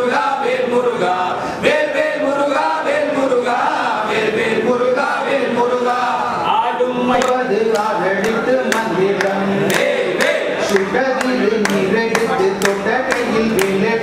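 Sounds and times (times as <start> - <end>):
group of men singing: 0.0 - 14.0.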